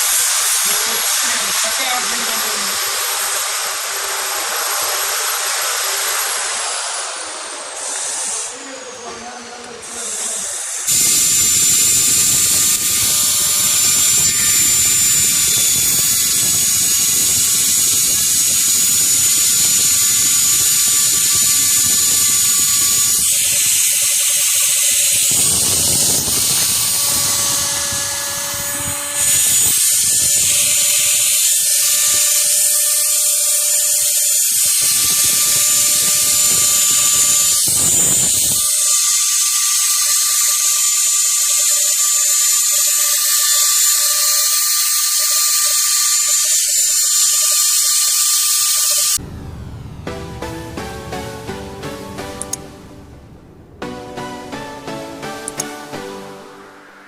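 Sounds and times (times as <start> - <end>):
milling machine motors whining: 0.0 - 49.2.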